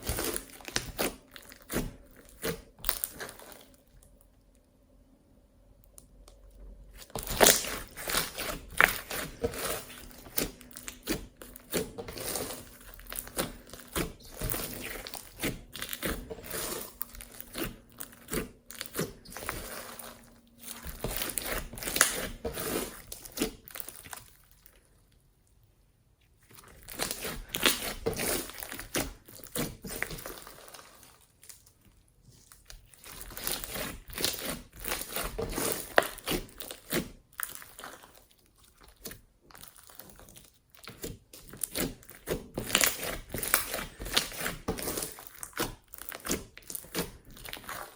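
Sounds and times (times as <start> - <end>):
slime squished by hand: 0.0 - 4.2, 5.9 - 24.8, 26.4 - 31.6, 32.3 - 47.9.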